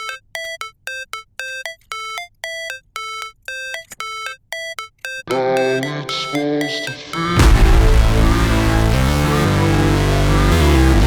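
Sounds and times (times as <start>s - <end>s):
electronic beeped melody: 0.0s - 11.0s.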